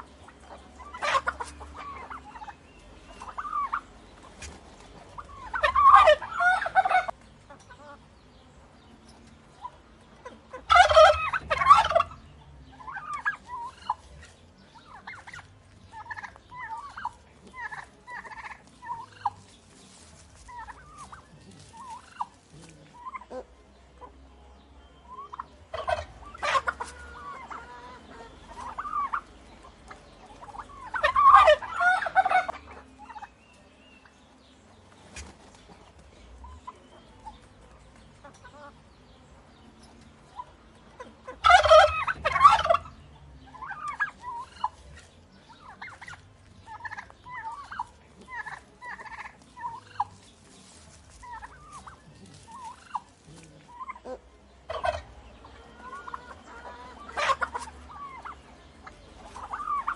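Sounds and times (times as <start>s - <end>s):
turkeys gobbling: 0.0s - 8.0s, 9.1s - 38.8s, 39.8s - 59.9s
turkey calls and clucks: 0.0s - 59.9s.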